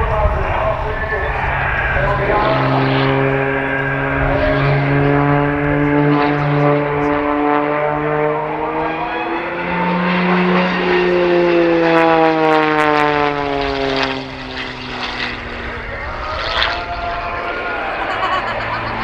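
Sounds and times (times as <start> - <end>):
propeller plane engine passing: 0.0 - 19.0.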